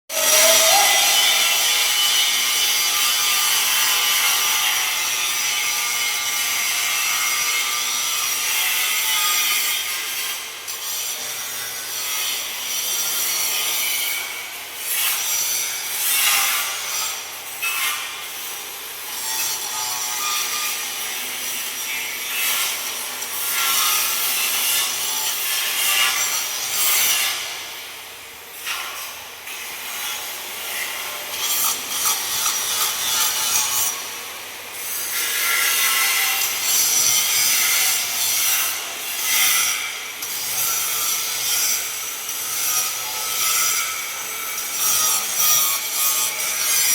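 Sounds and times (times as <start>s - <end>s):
angle grinder grinding metal: 0.1s - 46.9s.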